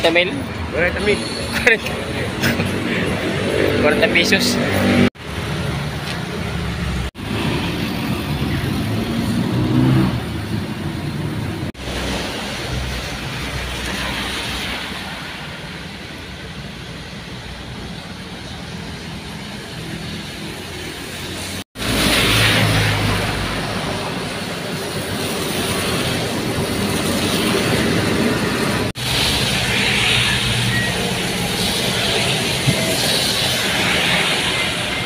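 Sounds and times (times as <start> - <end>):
tyres on wet road: 0.0 - 35.0.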